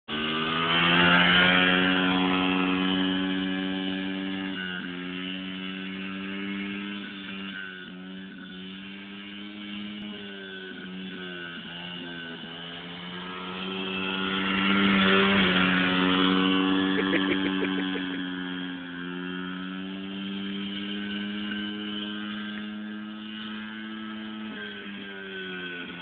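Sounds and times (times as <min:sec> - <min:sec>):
dirt bike engine running: 0:00.1 - 0:26.0.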